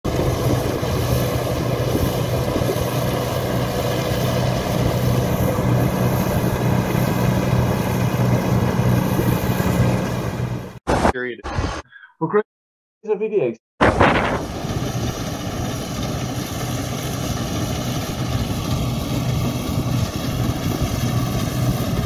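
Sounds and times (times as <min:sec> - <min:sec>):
combine harvester engine drone: 0:00.0 - 0:10.8, 0:14.0 - 0:22.0.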